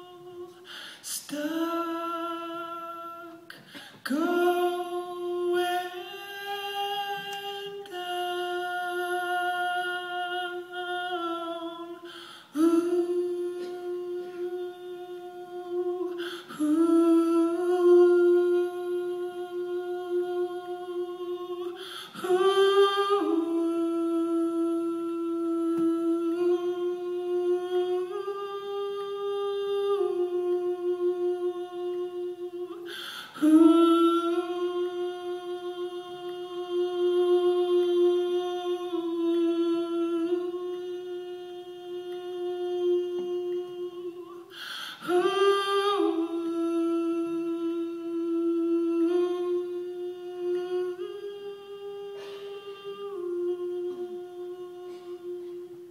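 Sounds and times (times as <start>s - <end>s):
person humming a slow melody: 0.0s - 55.9s.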